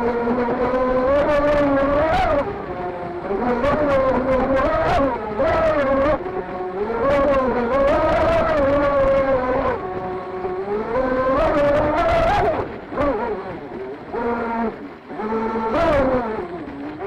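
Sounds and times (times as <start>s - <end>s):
electric motor whining: 0.0s - 17.0s
water slapping against hull: 0.0s - 17.0s.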